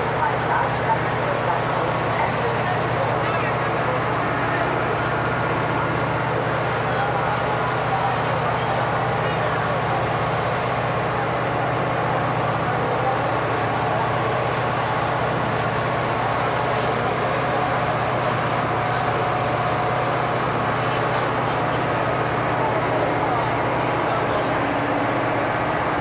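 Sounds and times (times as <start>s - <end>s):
boat engine droning: 0.0s - 26.0s
water rushing in wake: 0.0s - 26.0s.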